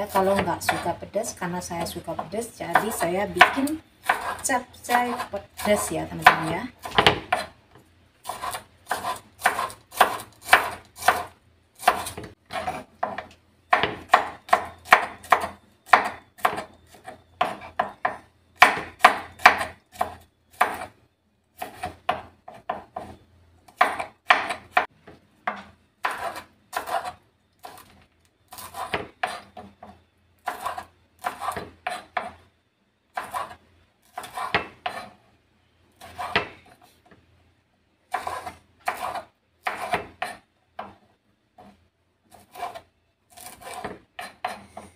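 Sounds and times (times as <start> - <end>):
knife chopping on wooden board: 0.1 - 1.0, 2.2 - 7.5, 8.3 - 20.9, 21.6 - 27.9, 28.5 - 29.8, 30.4 - 32.4, 33.2 - 35.2, 36.0 - 36.6, 38.1 - 41.0, 41.6 - 44.9.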